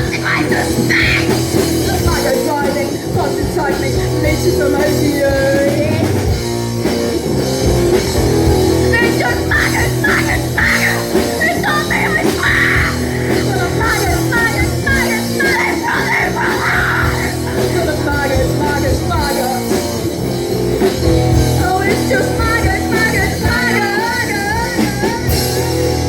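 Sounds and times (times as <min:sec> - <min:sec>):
bass guitar: 0:00.0 - 0:26.0
distorted guitars: 0:00.0 - 0:26.0
drums: 0:00.0 - 0:26.0
lead guitar bending notes: 0:00.0 - 0:26.0.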